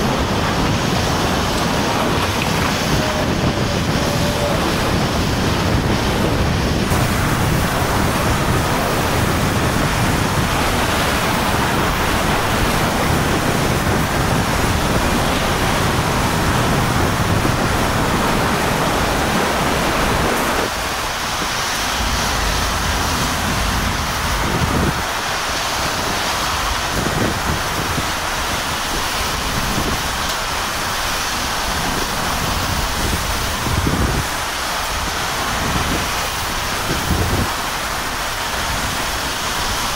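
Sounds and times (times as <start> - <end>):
wind and driving rain: 0.0 - 39.9
wind buffeting microphone: 0.0 - 39.9.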